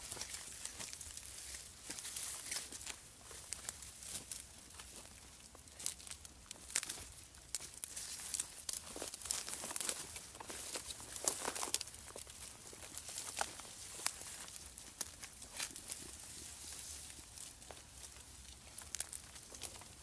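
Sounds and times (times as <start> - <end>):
leafy fodder rustling and tearing: 0.0 - 20.0.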